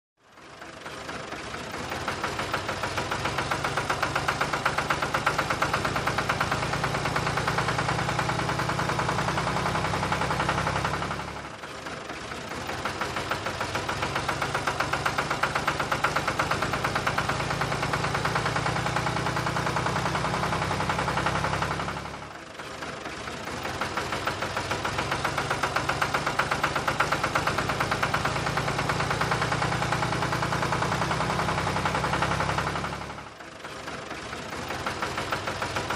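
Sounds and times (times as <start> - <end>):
tractor engine knocking: 0.2 - 35.9.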